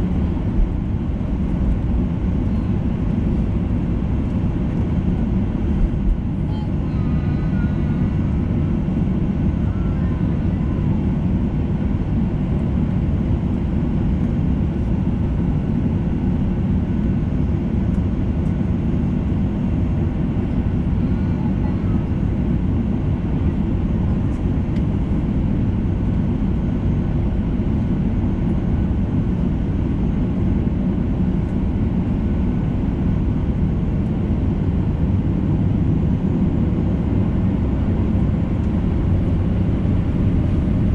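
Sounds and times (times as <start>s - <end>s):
jet engines idling: 0.0s - 40.9s.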